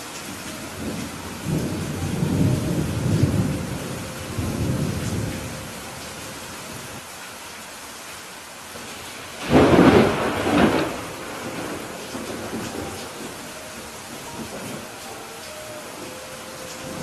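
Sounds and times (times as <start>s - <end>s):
steady rain: 0.0s - 17.0s
thunder rumble: 0.5s - 7.0s, 9.4s - 17.0s.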